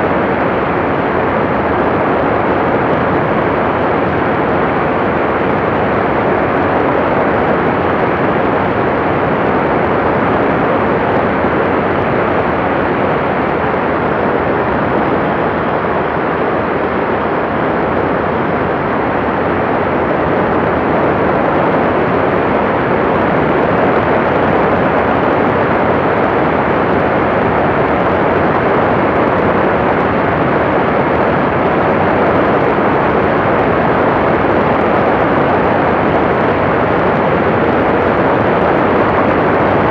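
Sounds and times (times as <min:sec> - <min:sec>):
ultralight aircraft engine: 0:00.0 - 0:39.9.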